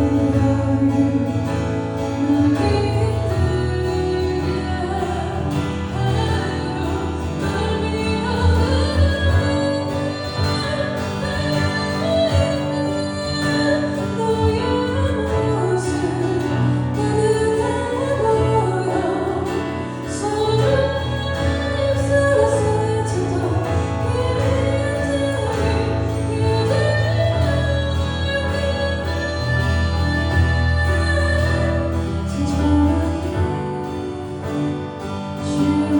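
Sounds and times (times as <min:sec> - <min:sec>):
sustained bass notes: 0:00.0 - 0:35.9
woman singing: 0:00.0 - 0:35.9.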